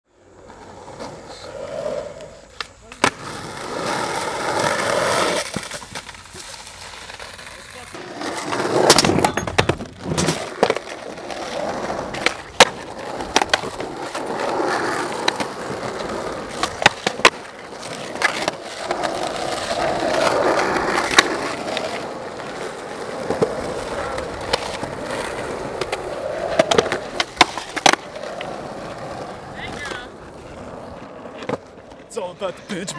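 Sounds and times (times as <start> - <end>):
skateboard wheels rolling on asphalt: 0.1 - 32.9
skateboard clacks: 2.2 - 32.1.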